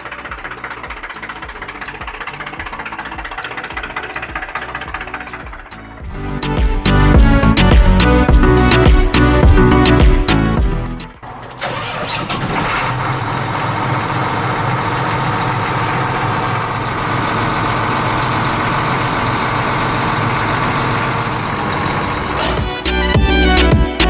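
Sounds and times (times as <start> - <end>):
small diesel engine running: 0.0 - 24.0.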